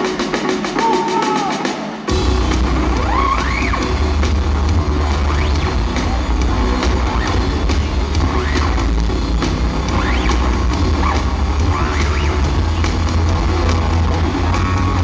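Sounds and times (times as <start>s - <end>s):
drums: 0.0s - 15.0s
electropop band playing live: 0.0s - 15.0s
bass line: 2.1s - 15.0s.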